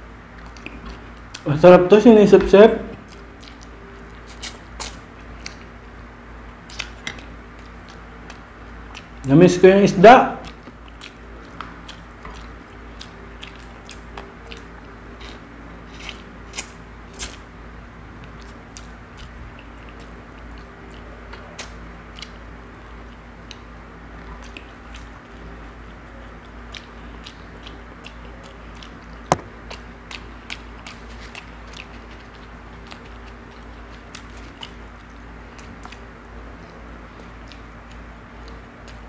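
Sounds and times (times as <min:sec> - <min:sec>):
steady low hum: 0:00.0 - 0:39.0
mouth clicks and smacks chewing: 0:00.4 - 0:01.5, 0:03.0 - 0:05.7, 0:06.6 - 0:09.3, 0:10.4 - 0:17.4, 0:18.2 - 0:39.0.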